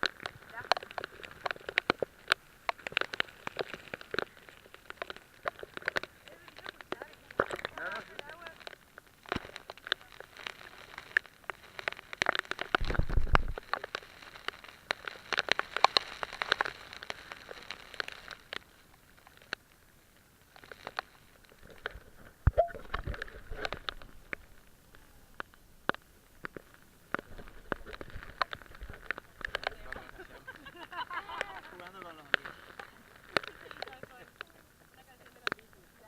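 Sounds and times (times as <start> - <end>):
raindrops tapping near microphone: 0.0 - 36.0.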